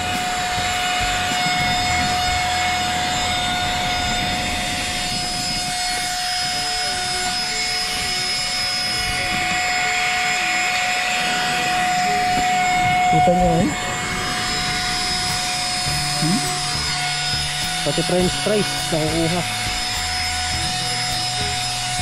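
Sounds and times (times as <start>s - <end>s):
mini vacuum motor whine: 0.0s - 22.0s.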